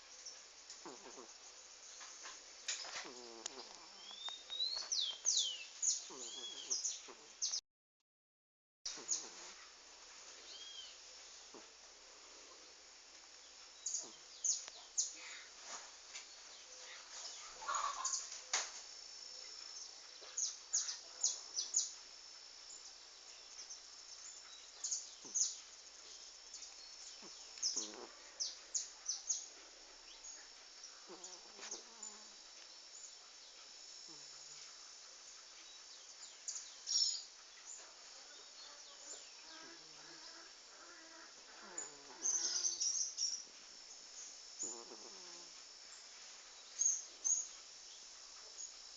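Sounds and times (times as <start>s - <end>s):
small birds chirping: 0.0s - 7.6s, 8.9s - 12.6s, 13.3s - 18.6s, 19.4s - 22.0s, 22.6s - 48.9s
high-pitched insect-like whine: 8.9s - 48.9s.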